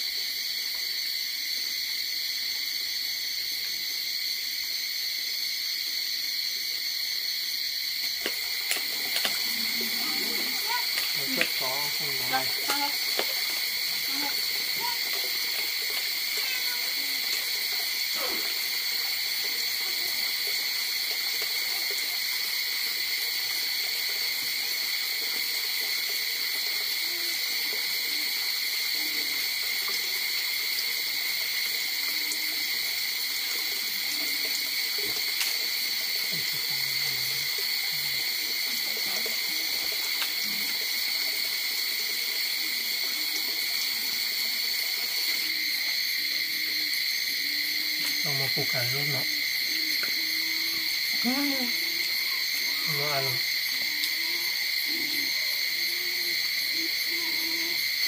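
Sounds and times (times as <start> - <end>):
night insects buzzing: 0.0 - 58.0.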